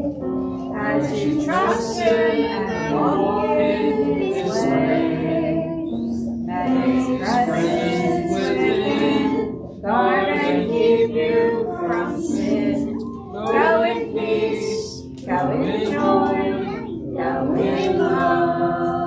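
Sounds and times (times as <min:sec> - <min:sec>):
congregation singing a hymn: 0:00.0 - 0:19.0.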